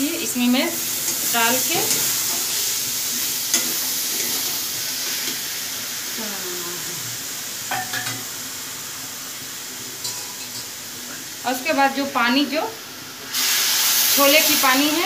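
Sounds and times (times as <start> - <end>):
chickpeas sizzling in a pan: 0.0 - 15.0.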